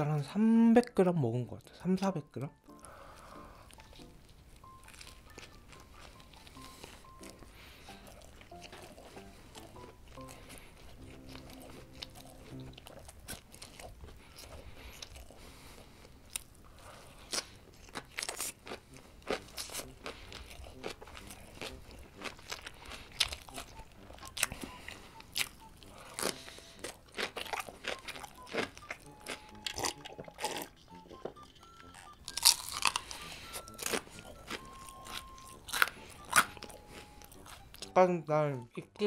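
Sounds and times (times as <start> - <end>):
soft chewing: 2.5 - 38.0
crisp crunches of biting: 4.6 - 15.6, 16.2 - 37.9.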